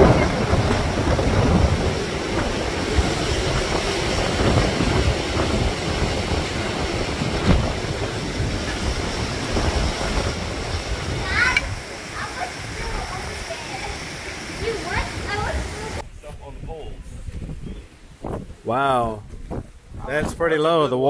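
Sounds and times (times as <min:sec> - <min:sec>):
wind-driven rain hissing: 0:00.0 - 0:20.9
wind gusting across microphone: 0:00.0 - 0:21.0.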